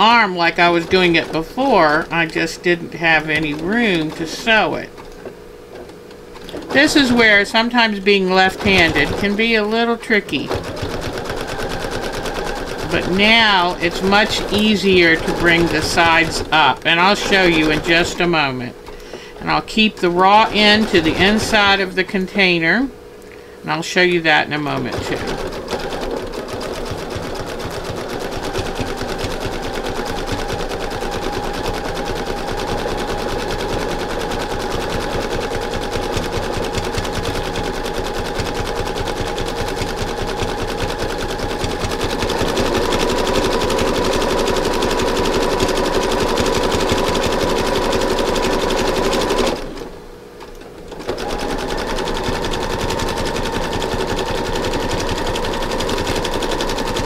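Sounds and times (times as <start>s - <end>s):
sewing machine running: 0.0s - 22.8s, 24.0s - 57.0s.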